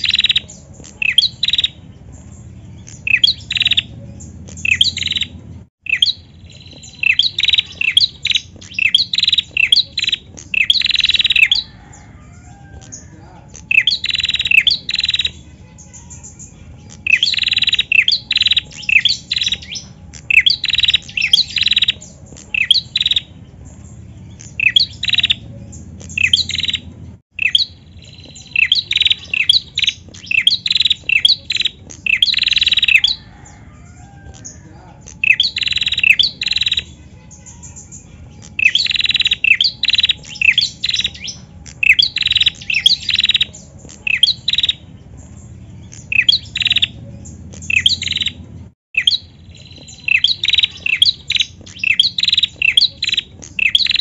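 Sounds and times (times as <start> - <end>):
bird chirping rapidly: 0.0 - 54.0.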